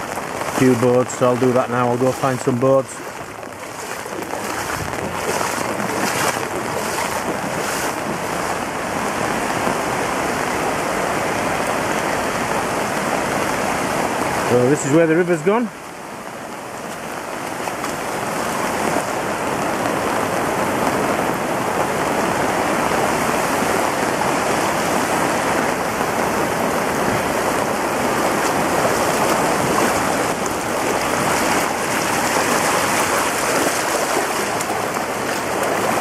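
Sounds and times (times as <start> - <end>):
rush of floodwater: 0.0 - 36.0.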